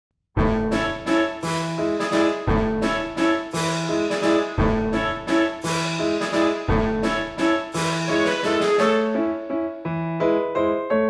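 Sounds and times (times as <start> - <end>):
light background tune: 0.4 - 10.3.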